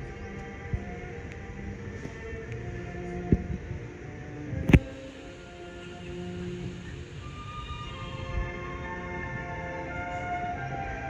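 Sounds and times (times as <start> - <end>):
slow held-note music: 0.0 - 11.0.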